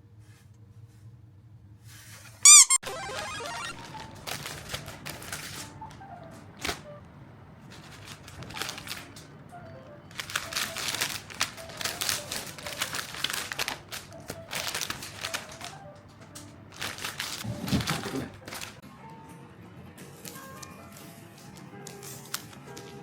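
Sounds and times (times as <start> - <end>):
light background music: 2.8 - 23.0
crinkly handling noises: 3.2 - 18.8, 20.1 - 23.0.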